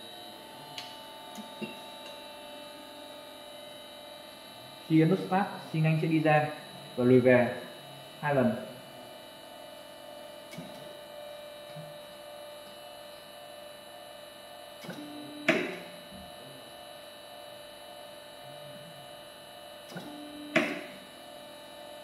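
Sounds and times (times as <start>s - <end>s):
hydraulic power unit humming: 0.0s - 22.0s.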